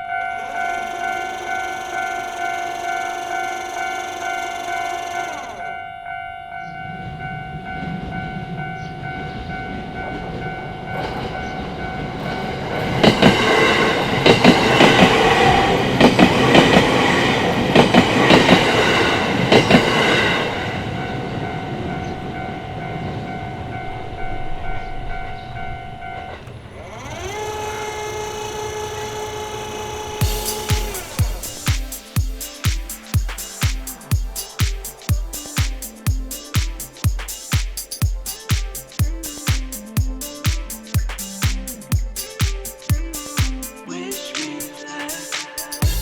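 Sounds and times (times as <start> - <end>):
train wheels clattering on rails: 0.0 - 5.7, 6.9 - 46.0
railway crossing bell ringing: 0.0 - 46.0.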